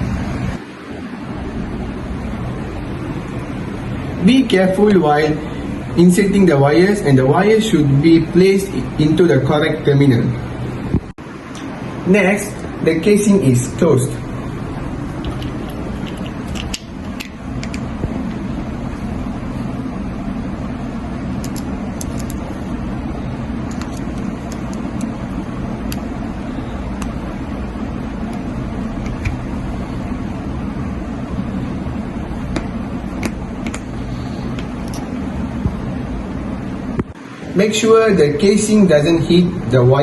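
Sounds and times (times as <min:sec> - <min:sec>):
steady low rumble: 0:00.0 - 0:39.9.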